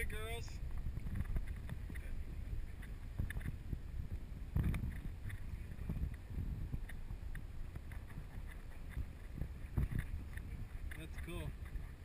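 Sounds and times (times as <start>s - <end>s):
light knocks of oars and boat: 0.0s - 12.0s
wind rumbling on microphone: 0.0s - 12.0s.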